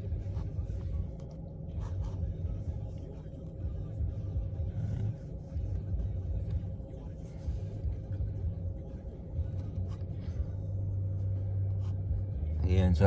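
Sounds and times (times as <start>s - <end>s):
faint steady hum: 0.0s - 13.0s
low uneven rumble inside car: 0.0s - 13.0s.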